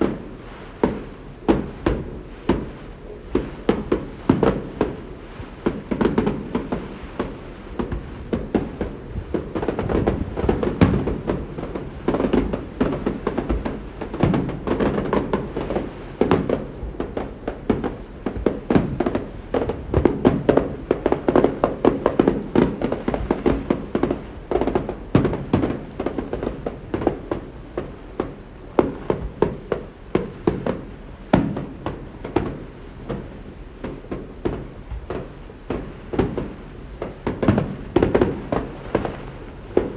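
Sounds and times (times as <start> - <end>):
fireworks bangs with rumbling echo: 0.0 - 39.9.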